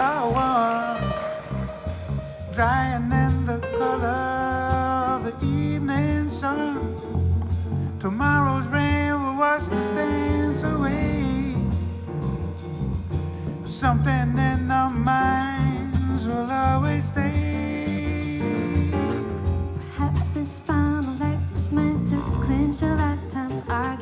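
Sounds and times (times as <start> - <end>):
person singing with vibrato: 0.0 - 7.1, 8.0 - 12.0, 13.7 - 24.0
drum kit with cymbals: 0.0 - 24.0
electric bass: 0.0 - 24.0
piano: 0.0 - 24.0.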